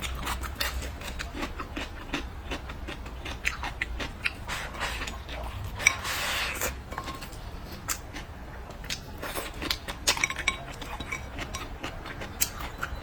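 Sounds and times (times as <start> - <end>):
chewing and biting: 0.0 - 13.0.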